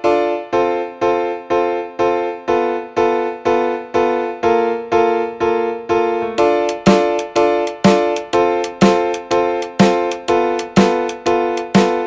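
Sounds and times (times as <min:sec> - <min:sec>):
electric piano chords: 0:00.0 - 0:12.0.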